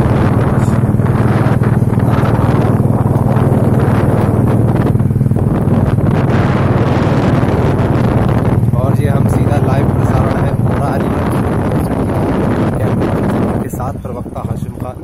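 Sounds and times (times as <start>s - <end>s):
vehicle engine humming: 0.0s - 15.0s
wind rushing over microphone: 0.0s - 15.0s.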